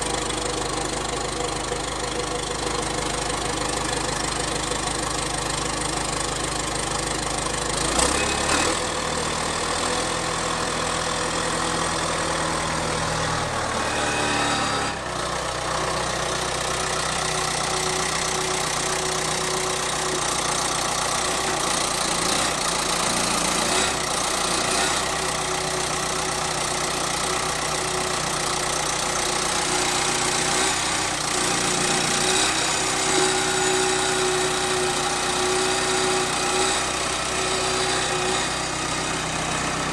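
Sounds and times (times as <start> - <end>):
bulldozer diesel engine idling: 0.0 - 39.9.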